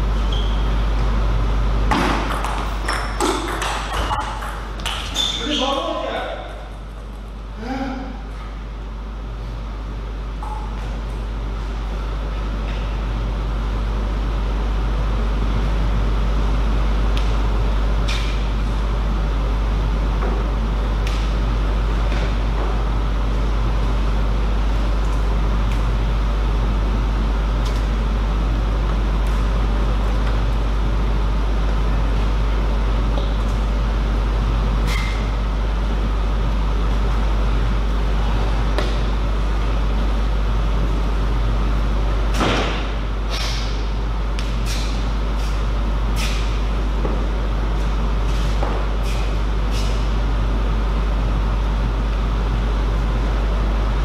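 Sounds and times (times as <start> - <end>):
low hall background hum: 0.0 - 54.0.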